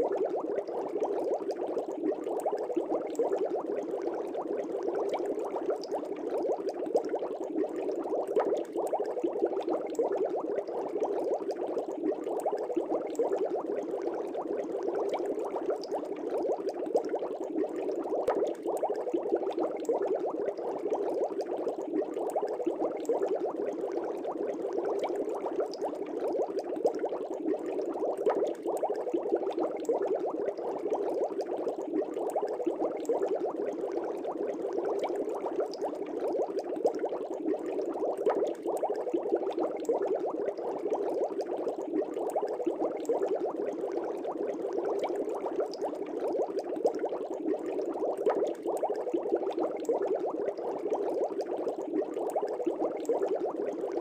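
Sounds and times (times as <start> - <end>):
fish tank water bubbling: 0.0 - 54.0.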